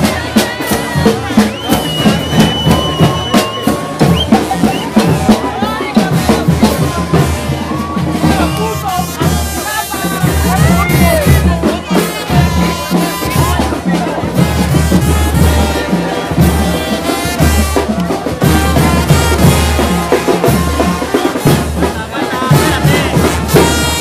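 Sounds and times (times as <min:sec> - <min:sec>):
drums: 0:00.0 - 0:24.0
trumpets: 0:00.0 - 0:24.0.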